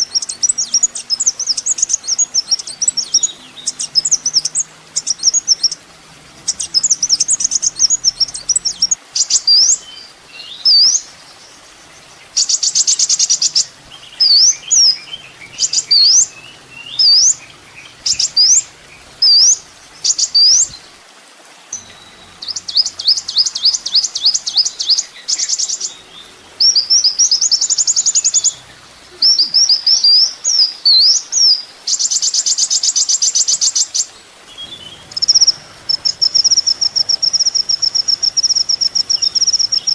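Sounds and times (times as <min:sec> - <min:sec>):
bird whistled song: 0:00.0 - 0:05.8, 0:06.5 - 0:11.1, 0:12.4 - 0:20.9, 0:21.8 - 0:39.9
dry bird trills: 0:00.0 - 0:39.9.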